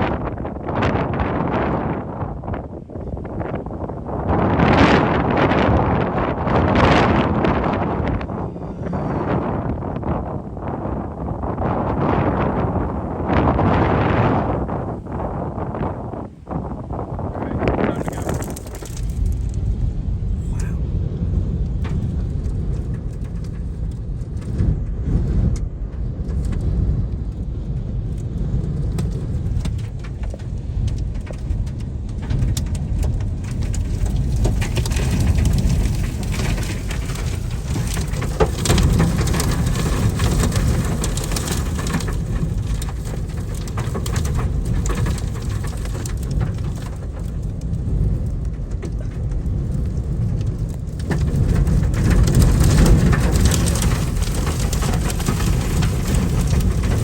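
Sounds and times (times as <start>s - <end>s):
dust and rain pattering on vehicle: 0.0s - 57.0s
storm winds buffeting vehicle: 0.0s - 57.0s.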